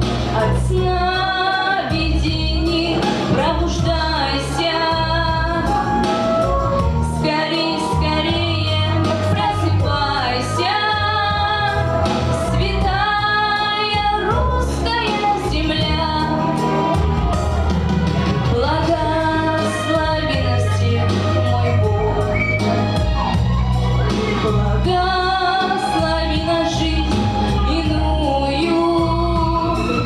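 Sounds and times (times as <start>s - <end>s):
instrumental accompaniment with bass: 0.0s - 30.0s
woman singing: 0.3s - 6.2s, 7.0s - 17.0s, 18.4s - 22.2s, 24.5s - 30.0s.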